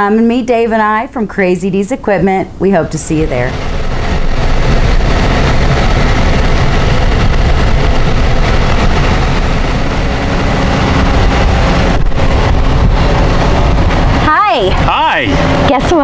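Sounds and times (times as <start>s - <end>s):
pickup truck engine rumbling: 2.4s - 16.0s.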